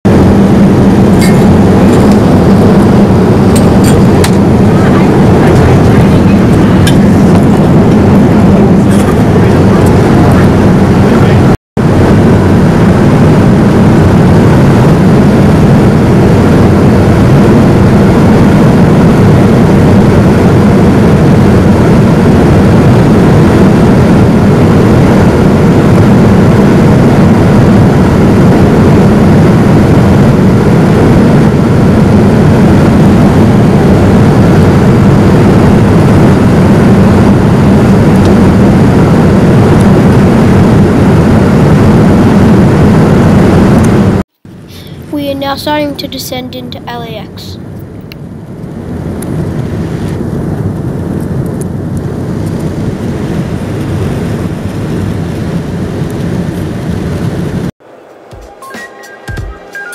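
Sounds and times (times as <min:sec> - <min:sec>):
airplane cabin engine drone: 0:00.1 - 0:59.9.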